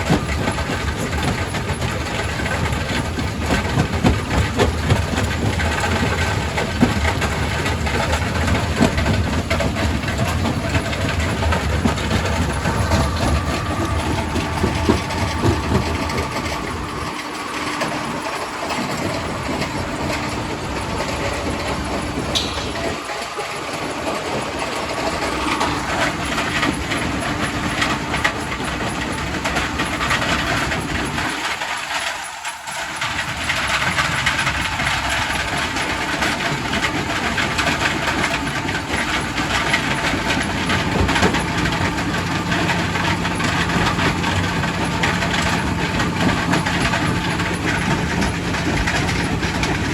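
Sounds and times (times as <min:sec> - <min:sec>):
rock crusher rumbling: 0:00.0 - 0:32.1, 0:32.7 - 0:49.9.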